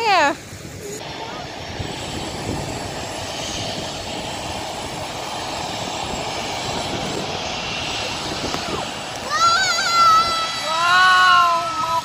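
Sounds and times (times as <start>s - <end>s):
jet engines running at low power: 0.0s - 12.0s.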